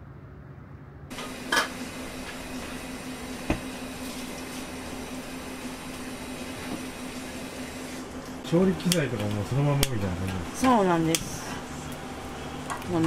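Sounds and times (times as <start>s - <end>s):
kitchen ventilation hum: 0.0s - 13.0s.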